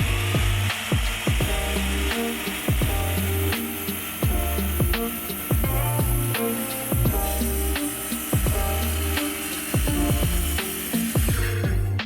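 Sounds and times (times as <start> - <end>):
background music with deep drums: 0.0 - 12.0.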